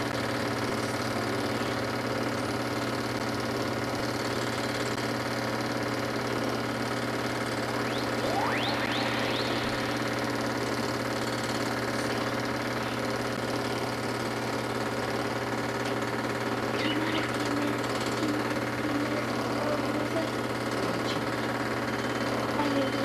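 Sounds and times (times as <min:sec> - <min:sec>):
film projector whirring: 0:00.0 - 0:23.0.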